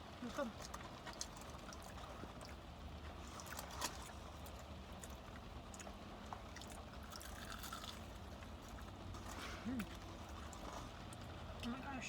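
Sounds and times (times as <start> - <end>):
low hum inside a car: 0.0 - 12.0
people chewing crispy food: 0.2 - 11.9.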